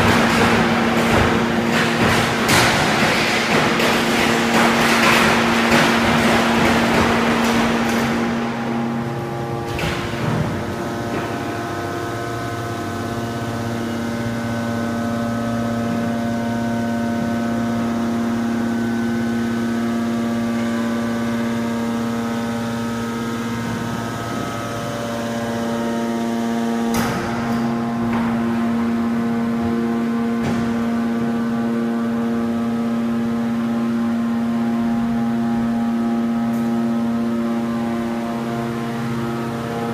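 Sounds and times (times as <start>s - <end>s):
hydraulic press hum and whine: 0.0s - 39.9s.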